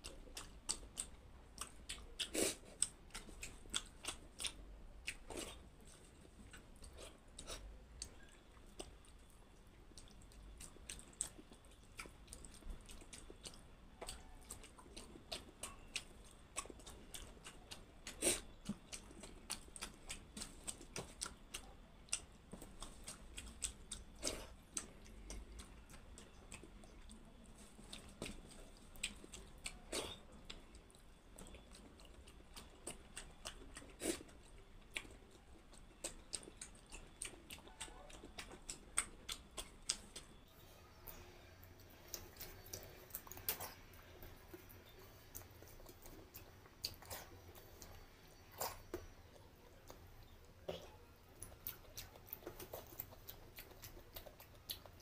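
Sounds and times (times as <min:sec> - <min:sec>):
person chewing with wet mouth clicks: 0:00.0 - 0:40.4, 0:42.1 - 0:55.0.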